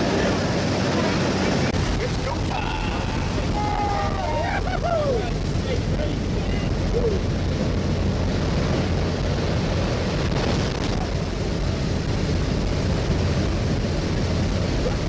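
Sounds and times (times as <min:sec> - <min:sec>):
aircraft engine drone: 0:00.0 - 0:15.0
wind rushing through open door: 0:00.0 - 0:15.0.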